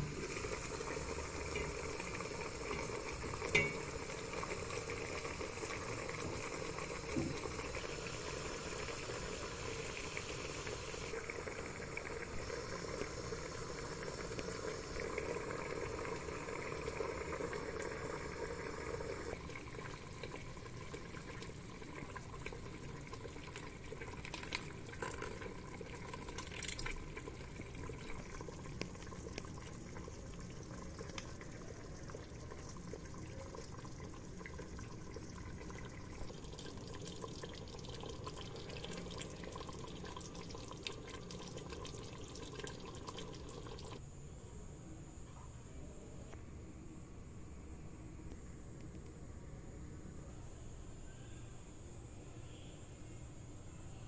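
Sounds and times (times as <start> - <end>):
water boiling in a pot: 0.0 - 44.0.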